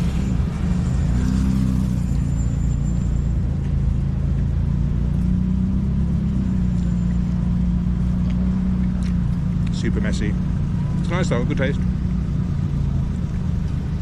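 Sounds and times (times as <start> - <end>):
street traffic: 0.0 - 14.0
vehicle engine humming: 0.0 - 14.0.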